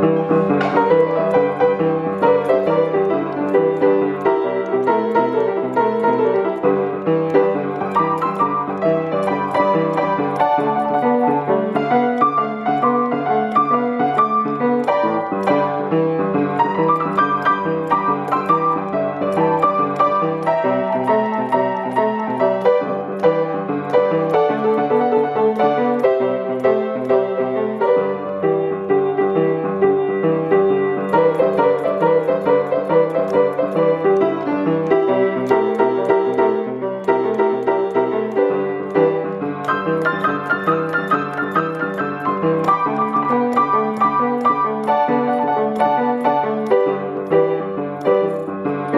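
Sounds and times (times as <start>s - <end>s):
boogie-woogie piano playing: 0.0s - 48.9s
crisp high ticking: 0.0s - 48.9s.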